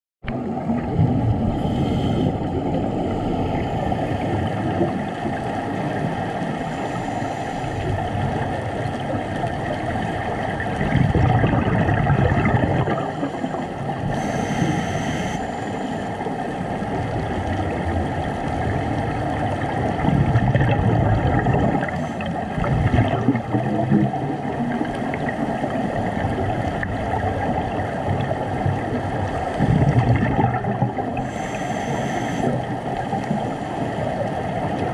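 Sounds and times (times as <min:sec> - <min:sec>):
regulator bubbles gurgling underwater: 0:00.2 - 0:34.9
faint steady hum: 0:00.3 - 0:34.9.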